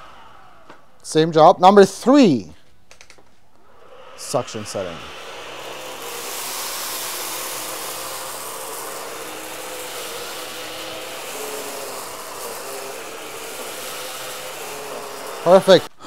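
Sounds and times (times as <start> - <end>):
stick vacuum humming on carpet: 0.0 - 1.1, 3.6 - 16.0.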